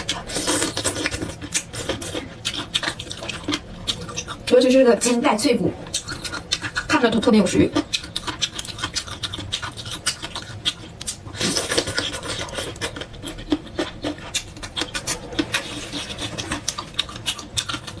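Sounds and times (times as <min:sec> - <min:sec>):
crunchy chewing: 0:00.0 - 0:05.2, 0:05.8 - 0:18.0.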